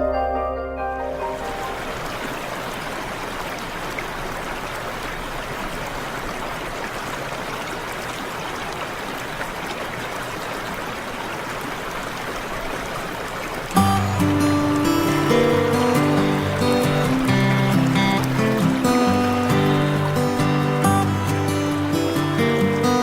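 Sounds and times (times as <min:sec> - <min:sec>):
stream water flowing: 0:01.1 - 0:23.0.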